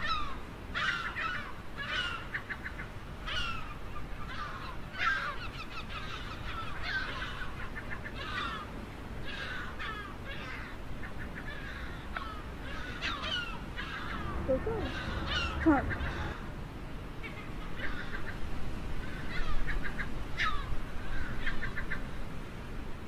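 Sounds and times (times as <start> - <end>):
gulls calling: 0.0 - 22.2.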